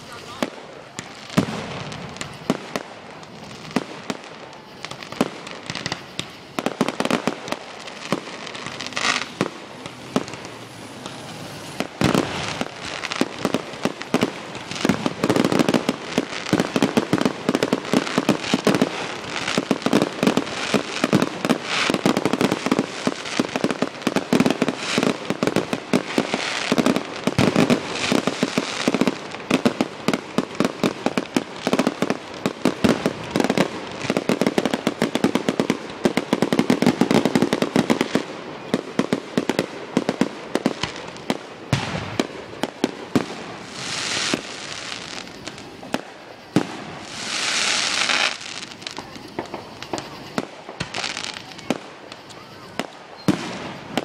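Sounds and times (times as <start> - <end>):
fireworks bangs and crackles: 0.0 - 54.0
fireworks hissing bursts: 0.0 - 54.0.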